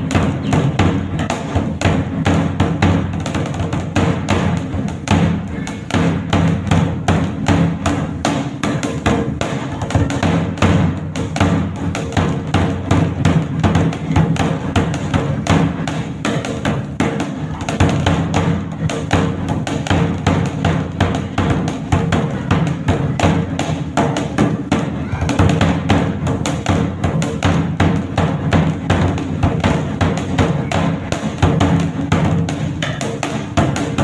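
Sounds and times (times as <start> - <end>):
barrel drum played with sticks: 0.0 - 34.0.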